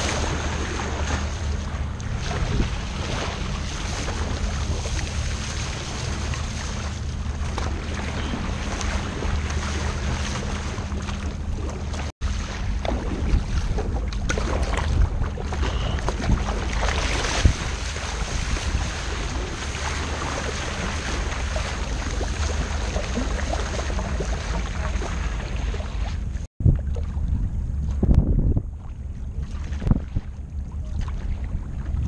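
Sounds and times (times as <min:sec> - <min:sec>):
water rushing and splashing: 0:00.0 - 0:27.2
wind rumble on microphone: 0:00.0 - 0:32.0.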